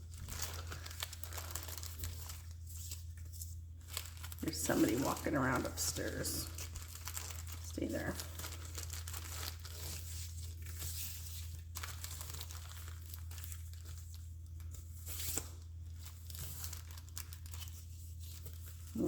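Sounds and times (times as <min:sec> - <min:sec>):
paper and ribbon rustling: 0:00.0 - 0:19.0.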